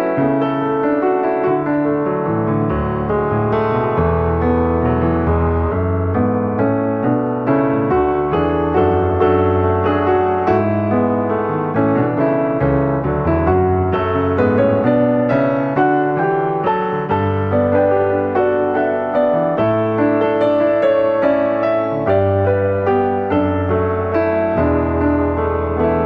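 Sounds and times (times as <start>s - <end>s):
background piano music: 0.0s - 26.0s.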